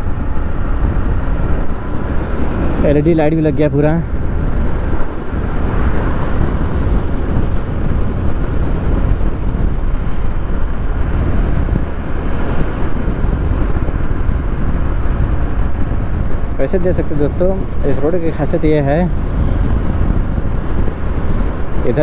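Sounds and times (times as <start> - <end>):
motorcycle engine and road rumble: 0.0 - 22.0
wind rushing over microphone: 0.0 - 22.0.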